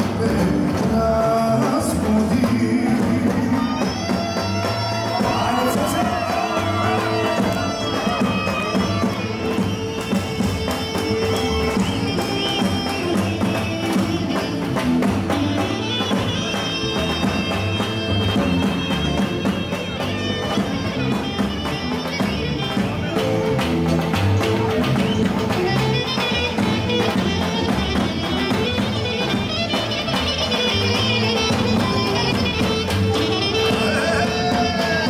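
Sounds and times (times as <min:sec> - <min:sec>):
saxophone melody: 0:00.0 - 0:35.0
steady drum beat: 0:00.0 - 0:35.0.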